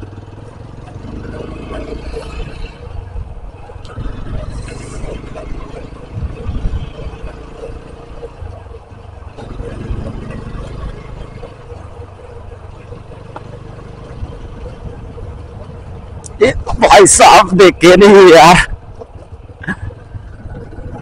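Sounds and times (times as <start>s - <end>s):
motorcycle engine running: 0.0s - 16.7s, 17.7s - 21.0s
wind buffeting microphone: 0.0s - 21.0s.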